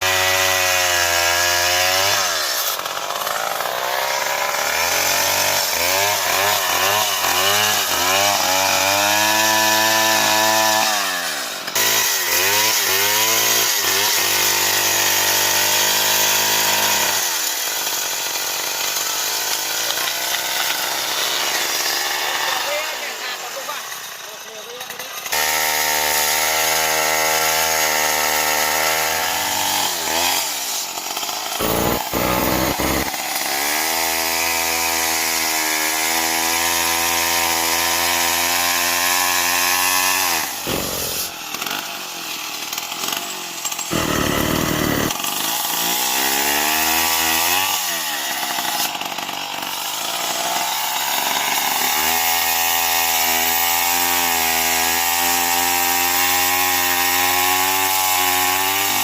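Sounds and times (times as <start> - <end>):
chainsaw sawing wood: 0.0 - 59.0.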